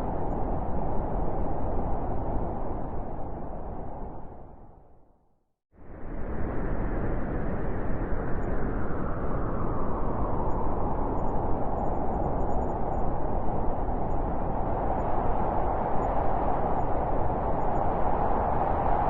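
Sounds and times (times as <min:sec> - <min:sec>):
howling blizzard wind: 0:00.0 - 0:05.1, 0:05.8 - 0:19.0.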